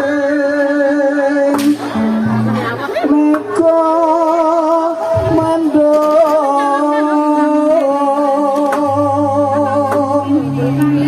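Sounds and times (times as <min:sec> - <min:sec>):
solo voice singing: 0:00.0 - 0:11.0.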